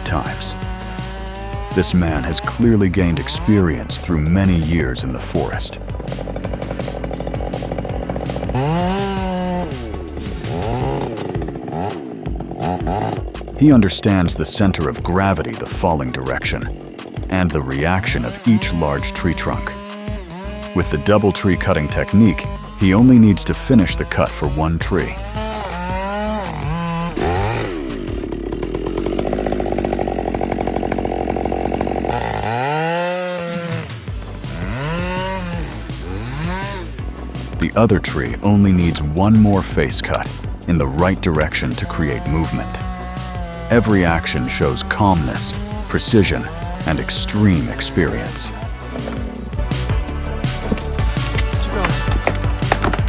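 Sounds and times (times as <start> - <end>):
background music: 0.0 - 53.0
chainsaw engine running: 0.0 - 53.0.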